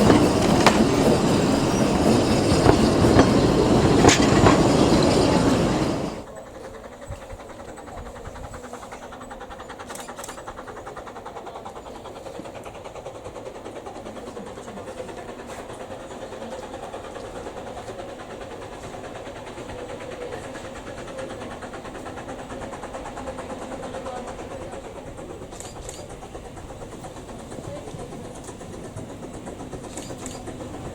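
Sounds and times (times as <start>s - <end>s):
train rumbling along track: 0.0s - 30.9s.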